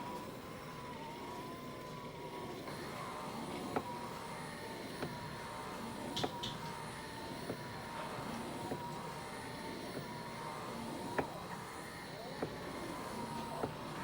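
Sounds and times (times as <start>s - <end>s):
motor whine: 0.0s - 14.0s.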